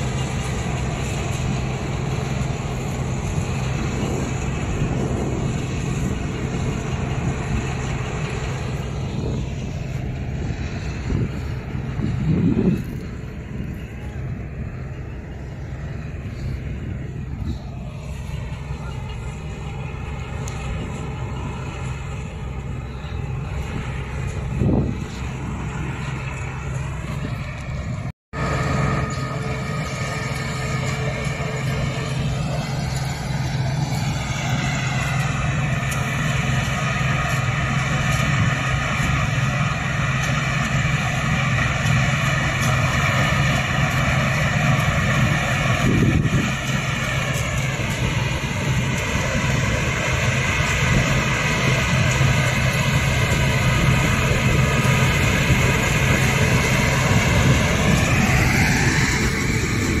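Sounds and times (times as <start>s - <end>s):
combine harvester engine drone: 0.0s - 60.0s
whine of threshing machinery: 0.0s - 60.0s.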